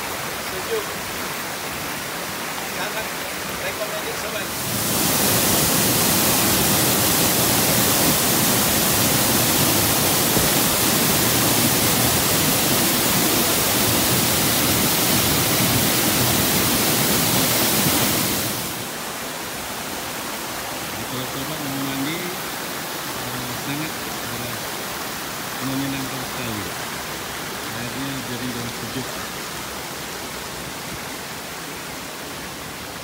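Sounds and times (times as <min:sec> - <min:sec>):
stream running over rocks: 0:00.0 - 0:33.0
waterfall rushing: 0:00.0 - 0:33.0.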